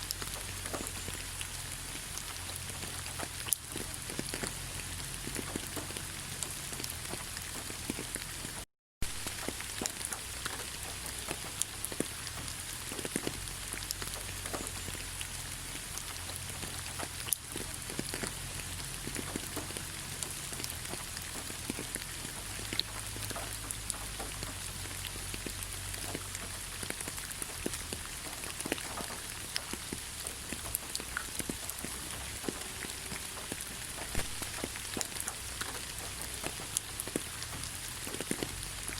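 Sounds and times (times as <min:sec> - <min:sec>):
raindrop hits: 0:00.0 - 0:38.9
steady rain falling: 0:00.0 - 0:38.9.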